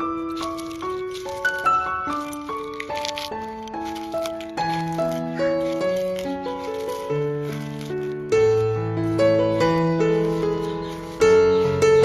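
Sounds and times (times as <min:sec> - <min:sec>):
light melody of held notes: 0:00.0 - 0:12.0.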